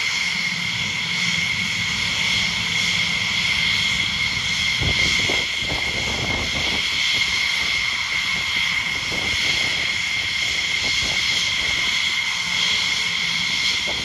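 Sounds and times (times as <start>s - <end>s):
jet engine low rumble: 0.0s - 14.0s
jet engine whine: 0.0s - 14.0s.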